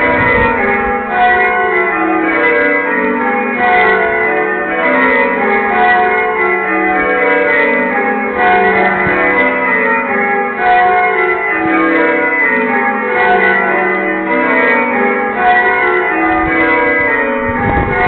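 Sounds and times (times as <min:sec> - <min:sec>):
church bells ringing changes: 0:00.0 - 0:18.0.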